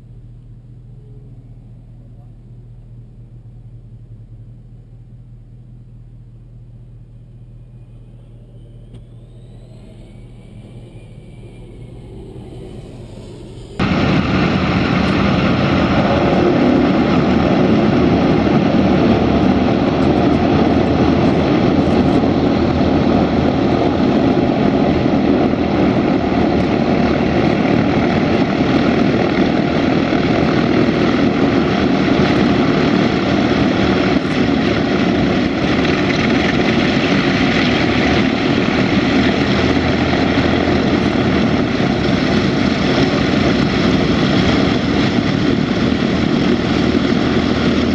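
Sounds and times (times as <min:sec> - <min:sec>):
piston aircraft engines running: 0:00.0 - 0:47.9.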